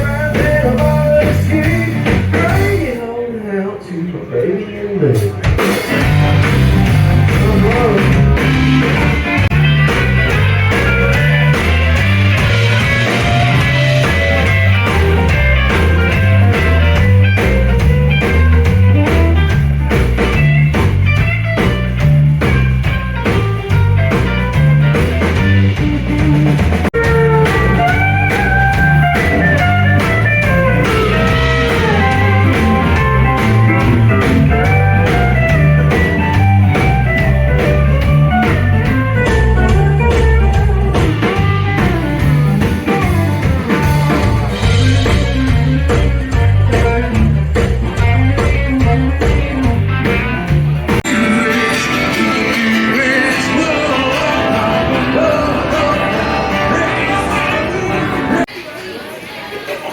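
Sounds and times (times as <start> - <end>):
blues rock band playing: 0.0 - 3.4, 4.8 - 58.6.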